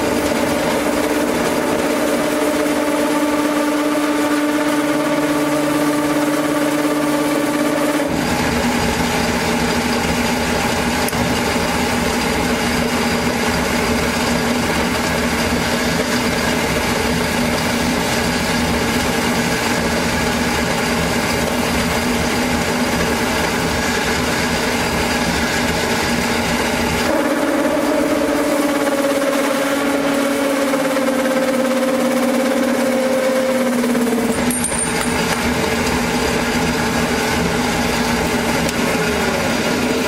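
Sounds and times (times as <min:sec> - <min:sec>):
electric workshop machine humming: 0:00.0 - 0:40.0.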